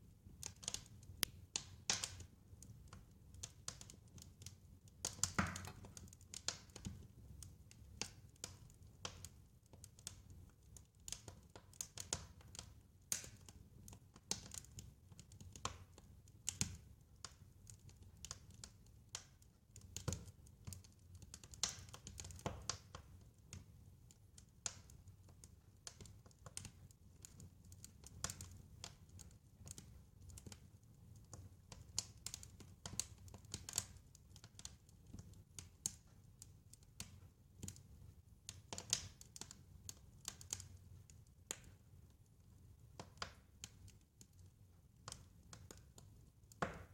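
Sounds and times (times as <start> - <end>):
wood fire crackling: 0.1 - 46.9
fire pops and snaps: 0.2 - 42.1, 42.8 - 46.9.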